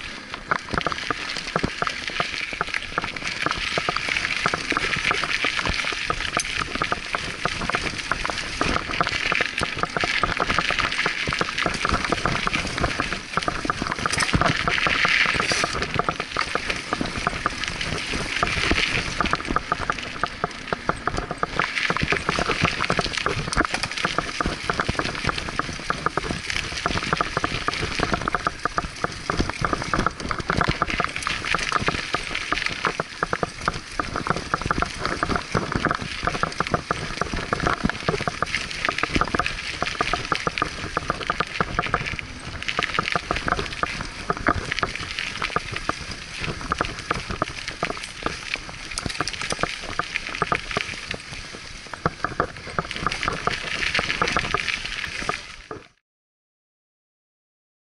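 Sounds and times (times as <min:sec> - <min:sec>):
bike rattling over bumps: 0:00.0 - 0:55.6
bike tyres on dirt: 0:00.0 - 0:55.8.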